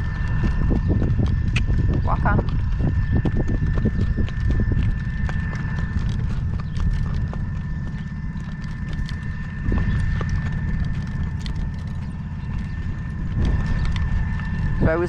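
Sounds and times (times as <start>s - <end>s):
cart rattling clicks: 0.0s - 15.0s
horse hooves clip-clopping: 0.0s - 15.0s
wind on microphone: 0.0s - 15.0s.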